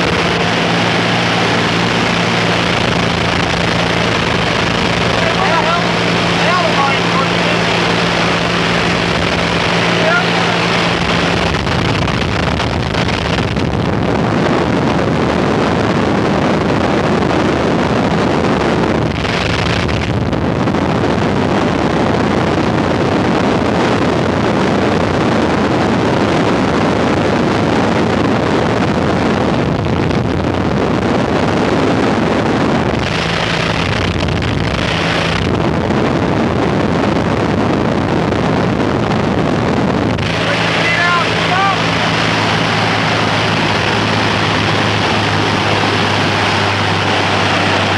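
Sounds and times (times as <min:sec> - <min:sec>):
aircraft engine drone: 0:00.0 - 0:47.9
wind rushing buffeting microphone: 0:00.0 - 0:47.9.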